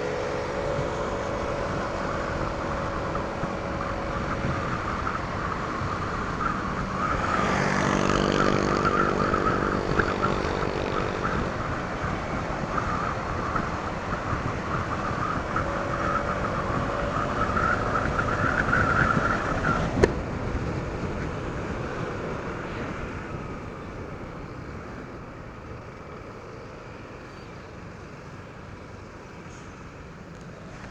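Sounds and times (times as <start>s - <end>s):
scooter engine running: 0.0s - 25.4s
wind and road noise: 0.0s - 30.9s.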